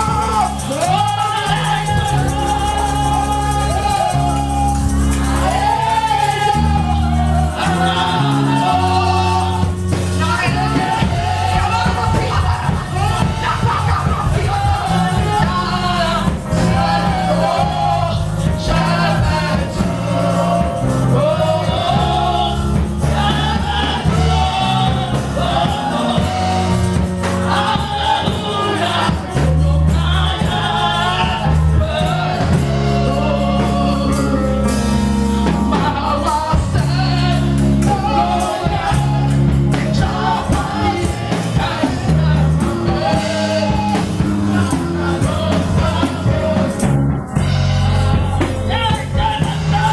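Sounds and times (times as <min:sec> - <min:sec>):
gospel voices singing: 0:00.0 - 0:49.9
loud steady bass line: 0:00.0 - 0:49.9.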